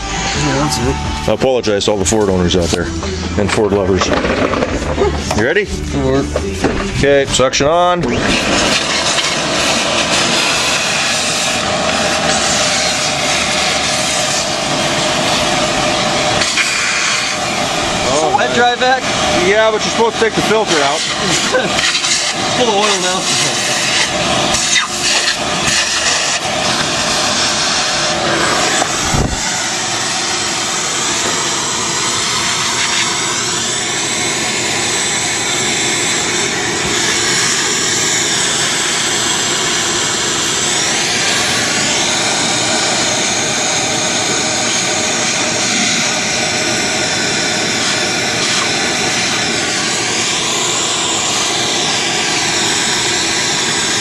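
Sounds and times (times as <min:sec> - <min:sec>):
shop vacuum whining hum: 0:00.0 - 0:54.0.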